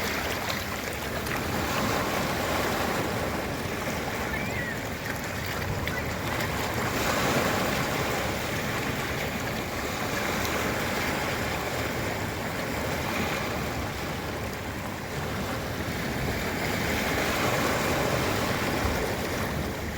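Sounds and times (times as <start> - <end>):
ocean waves washing onto beach: 0.0 - 19.9.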